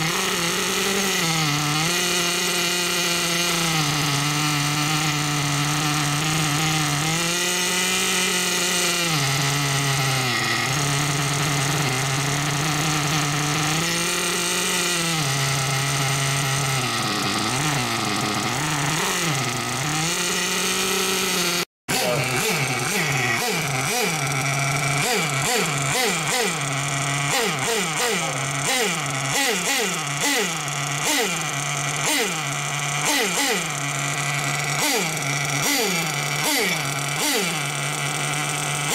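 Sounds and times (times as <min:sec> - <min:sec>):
nitro model engine revving: 0:00.0 - 0:38.9.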